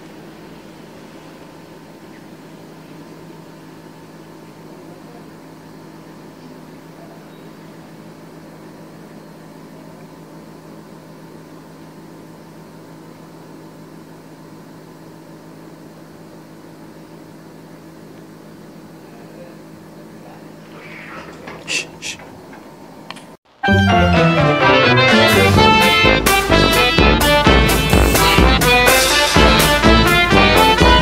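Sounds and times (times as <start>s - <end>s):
machine hum with held tones: 0.0s - 31.0s.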